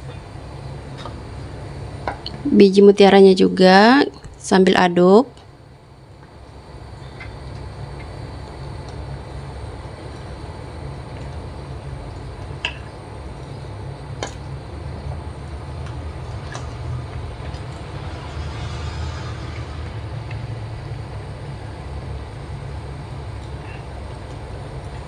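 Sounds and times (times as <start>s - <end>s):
water boiling in a pot: 0.0s - 25.0s.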